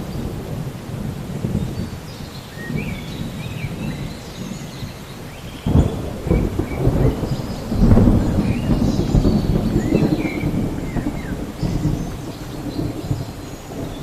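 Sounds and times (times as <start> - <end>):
rain falling: 0.0 - 14.0
rolling thunder: 0.0 - 14.0.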